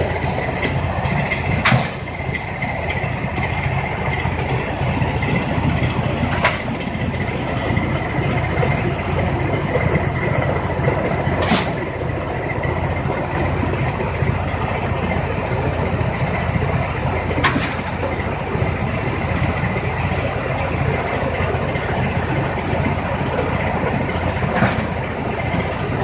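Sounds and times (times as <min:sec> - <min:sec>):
tractor engine hum: 0:00.0 - 0:26.0.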